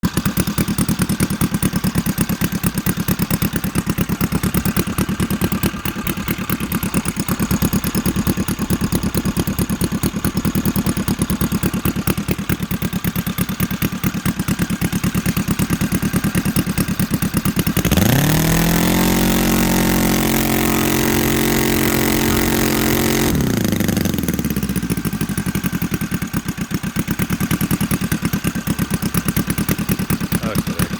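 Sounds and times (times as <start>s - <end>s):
model aircraft engine revving: 0.0s - 26.4s, 27.1s - 30.9s.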